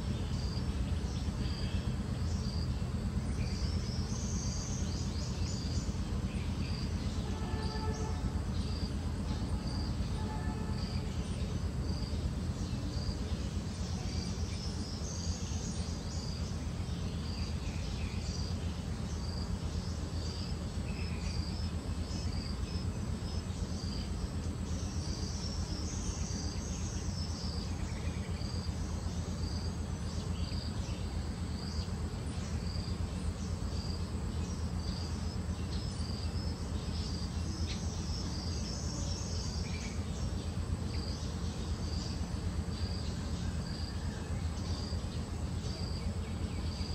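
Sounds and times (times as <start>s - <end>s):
insects chirping: 0.0s - 46.9s
steady low rumble: 0.0s - 46.9s.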